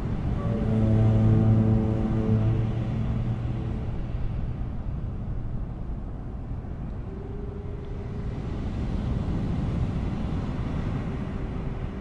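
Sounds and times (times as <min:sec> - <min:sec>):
distant foghorn: 0:00.0 - 0:05.9, 0:06.6 - 0:12.0
steady low rumble: 0:00.0 - 0:12.0.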